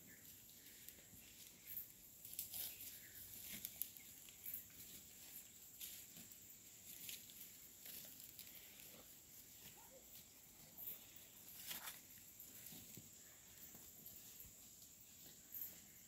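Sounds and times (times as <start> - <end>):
rustling leaves and footsteps: 0.0 - 16.0.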